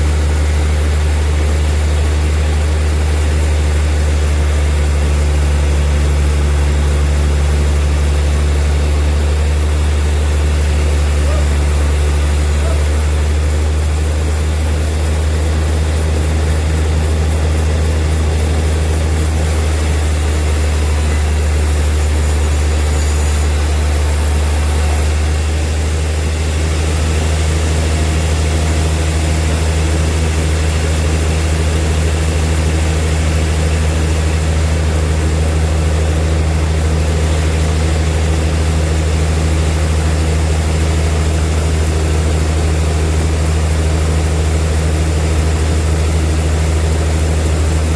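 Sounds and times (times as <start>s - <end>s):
bandsaw sawmill drone: 0.0s - 47.9s.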